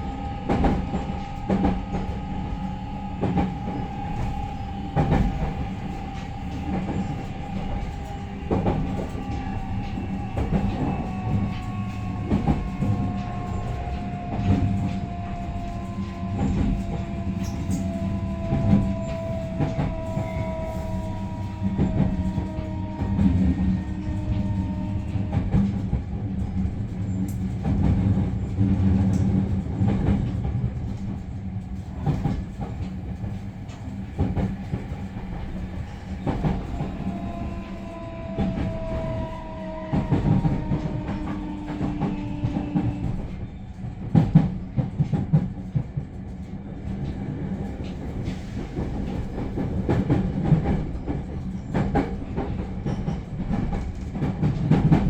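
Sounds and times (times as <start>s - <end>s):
train cabin low rumble: 0.0s - 55.0s.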